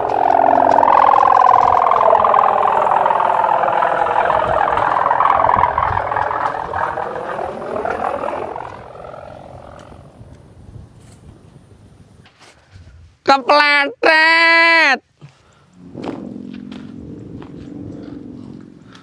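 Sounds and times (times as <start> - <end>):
kite hummer droning: 0.0 - 13.2, 15.2 - 19.0.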